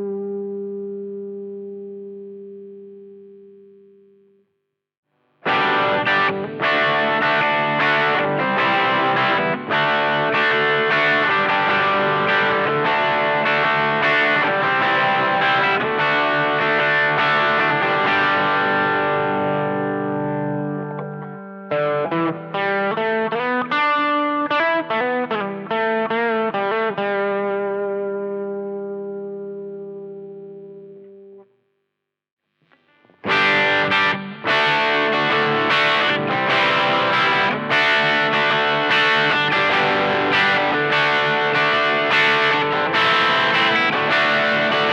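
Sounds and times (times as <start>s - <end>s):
overdriven electric guitar: 0.0s - 4.2s, 5.2s - 31.5s, 32.6s - 44.9s.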